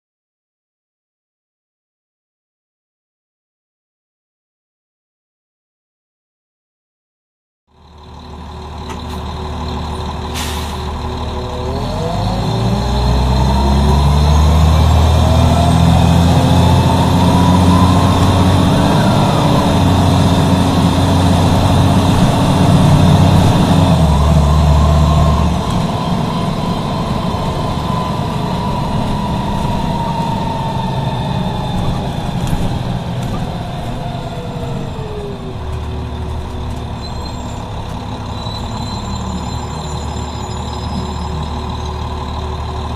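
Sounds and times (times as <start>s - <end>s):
bus diesel engine pulling away: 7.7s - 42.9s.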